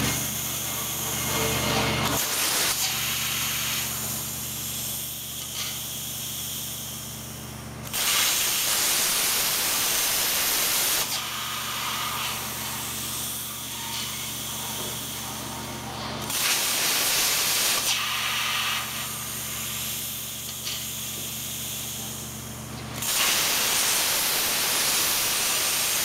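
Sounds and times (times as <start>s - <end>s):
plasma cutter hissing: 0.0s - 26.0s.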